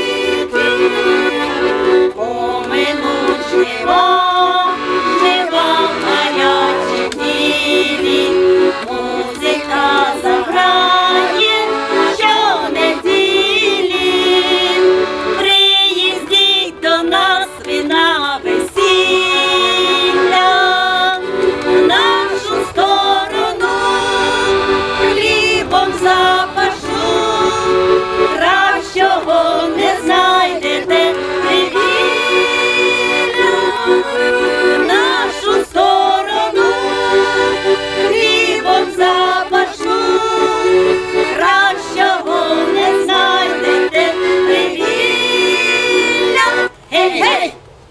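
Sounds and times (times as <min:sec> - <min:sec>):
vocal ensemble singing: 0:00.0 - 0:47.6
accordion chords: 0:00.0 - 0:47.9.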